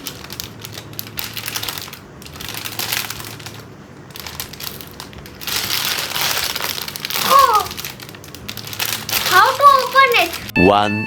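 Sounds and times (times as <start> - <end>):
packaging crinkling: 0.0 - 10.5.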